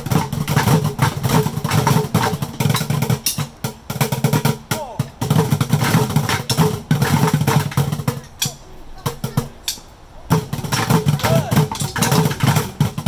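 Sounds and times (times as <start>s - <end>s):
drumsticks beating plastic buckets: 0.0s - 13.0s.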